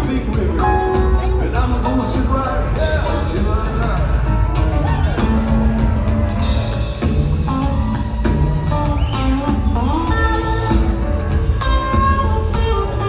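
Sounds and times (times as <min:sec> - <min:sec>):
electric guitar lead: 0:00.0 - 0:13.0
live rock band playing: 0:00.0 - 0:13.0.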